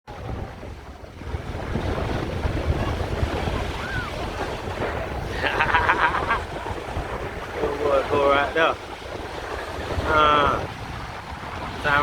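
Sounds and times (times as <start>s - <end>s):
beach surf: 0.1s - 12.0s
wind buffeting microphone: 0.1s - 12.0s.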